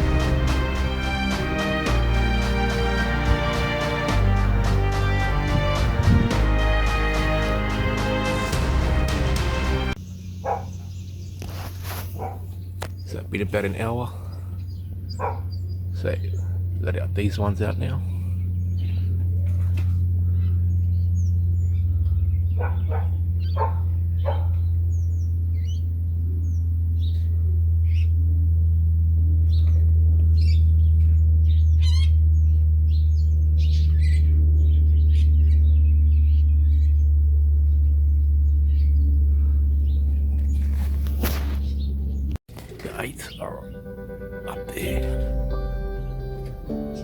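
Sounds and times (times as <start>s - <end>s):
birds chirping: 0.0s - 47.0s
loud steady low hum: 0.0s - 47.0s.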